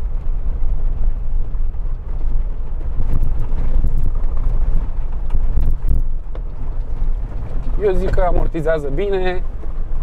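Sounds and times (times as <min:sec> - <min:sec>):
car cabin deep rumble: 0:00.0 - 0:10.0.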